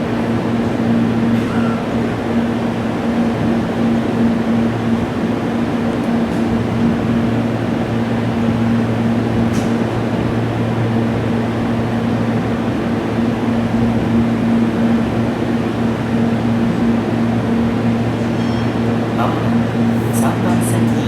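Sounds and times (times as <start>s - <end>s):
mechanical hum with low drones: 0.0s - 21.0s.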